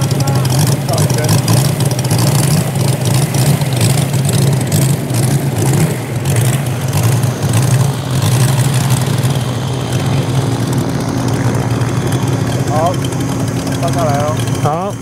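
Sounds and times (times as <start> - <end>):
model plane engine running: 0.0 - 15.0
propeller throb: 0.0 - 15.0.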